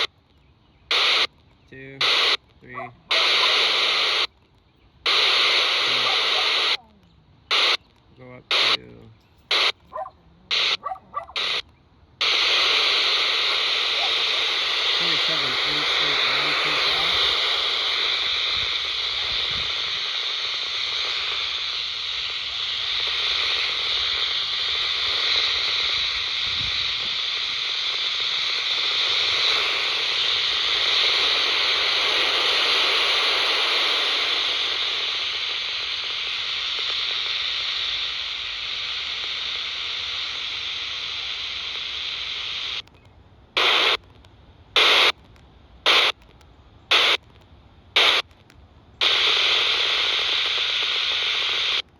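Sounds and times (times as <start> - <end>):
radio static hiss: 0.0 - 51.9.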